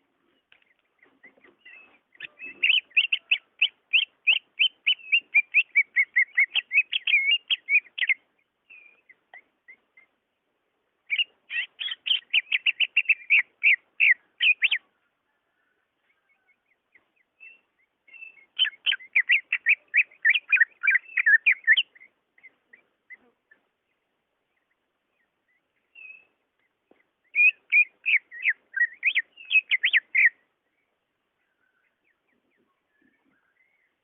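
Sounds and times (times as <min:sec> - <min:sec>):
bird singing whistled notes: 0:01.0 - 0:10.1, 0:11.0 - 0:14.9, 0:17.3 - 0:23.2, 0:24.5 - 0:26.4, 0:27.2 - 0:34.0.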